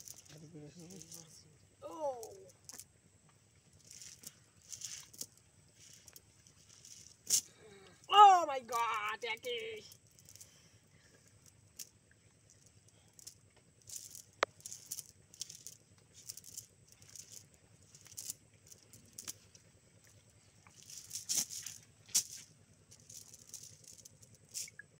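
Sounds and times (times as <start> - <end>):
net mesh and weights rattling: 0.0 - 2.9, 3.7 - 10.6, 11.3 - 24.8.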